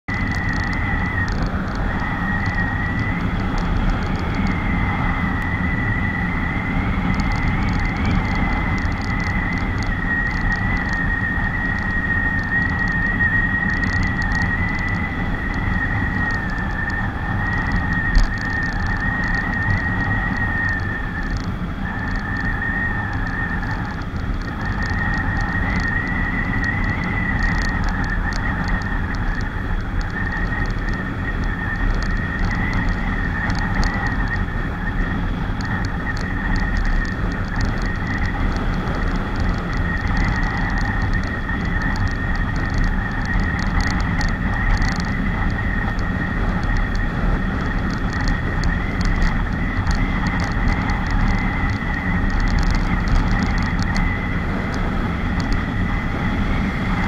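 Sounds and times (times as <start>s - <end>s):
high whine: 0.0s - 57.0s
motorcycle engine cruising: 0.0s - 57.0s
wind rumble on microphone: 0.0s - 57.0s.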